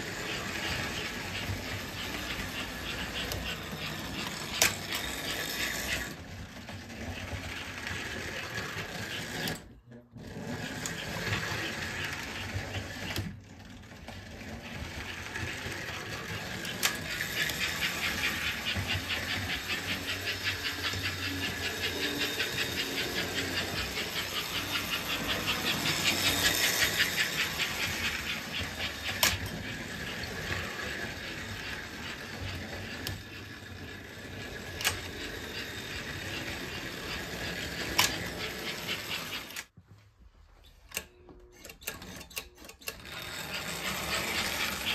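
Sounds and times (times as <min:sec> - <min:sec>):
toy train motor whirring and chuffing: 0:00.0 - 0:39.8, 0:40.9 - 0:44.9.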